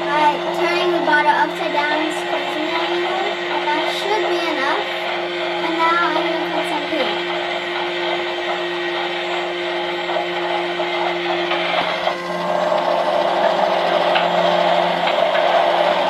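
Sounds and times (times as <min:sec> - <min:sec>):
slime churning in drum: 0:00.0 - 0:16.0
toy washing machine motor hum: 0:00.0 - 0:16.0.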